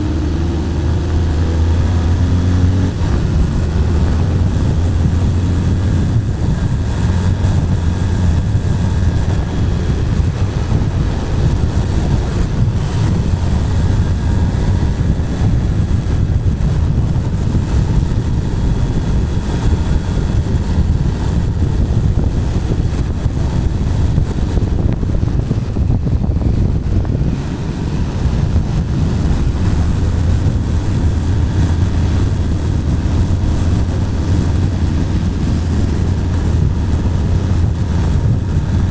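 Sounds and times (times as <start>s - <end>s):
motorcycle engine cruising: 0.0s - 38.9s
wind on microphone: 0.0s - 38.9s.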